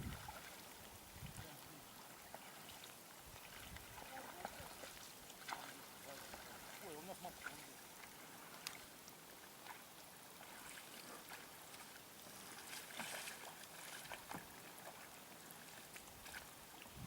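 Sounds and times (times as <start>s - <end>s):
light water splashes: 0.0s - 17.0s
water lapping and trickling: 0.0s - 17.0s.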